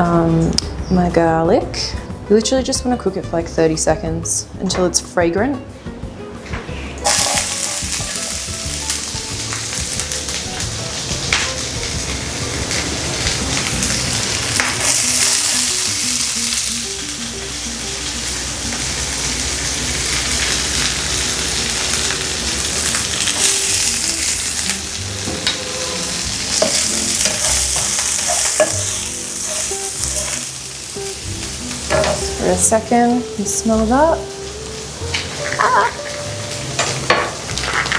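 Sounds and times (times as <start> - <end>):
garlic sizzling in frying pan: 6.8 - 37.9.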